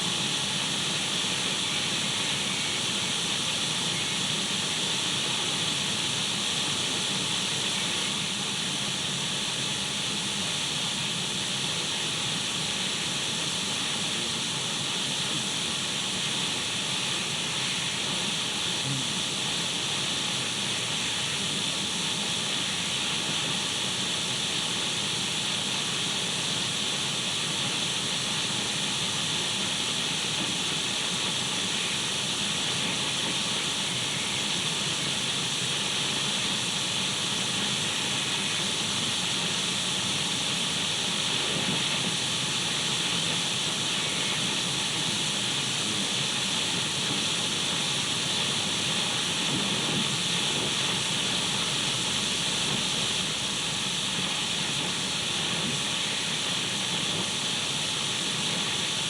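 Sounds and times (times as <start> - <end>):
radio static hiss: 0.0 - 8.4, 11.7 - 26.7, 27.3 - 59.0.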